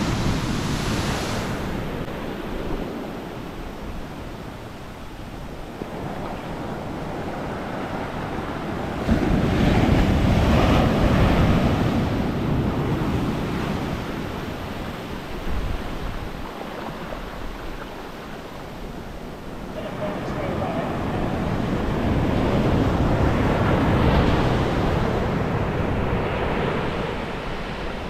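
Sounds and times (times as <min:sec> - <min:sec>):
ocean surf breaking on beach: 0:00.0 - 0:28.0
wind on the microphone: 0:00.0 - 0:28.0.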